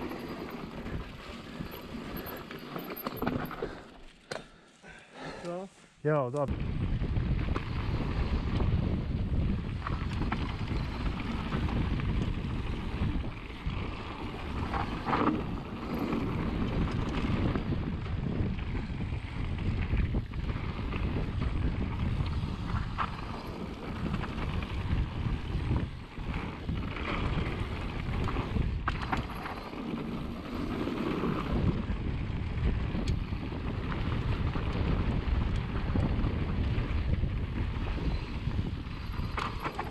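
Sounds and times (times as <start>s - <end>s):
bike knocking and rattling: 0.0s - 4.6s, 7.0s - 39.9s
bike tyres on dirt: 0.0s - 39.9s
wind buffeting microphone: 6.5s - 39.9s.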